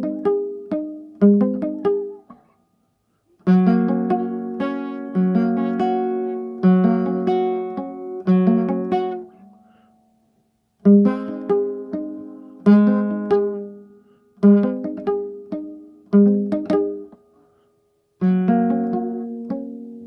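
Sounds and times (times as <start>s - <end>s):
classical guitar melody: 0.0s - 2.6s, 3.3s - 10.2s, 10.8s - 17.6s, 18.2s - 20.0s.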